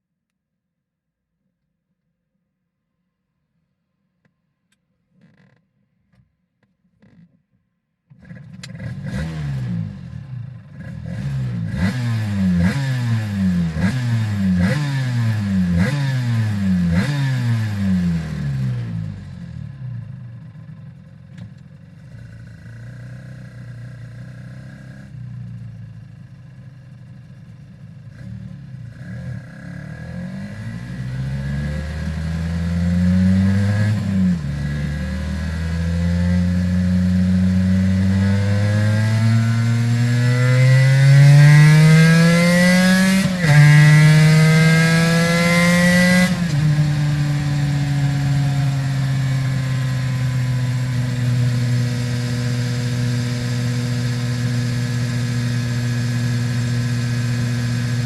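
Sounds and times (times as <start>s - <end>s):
motorcycle engine revving: 8.2s - 58.0s.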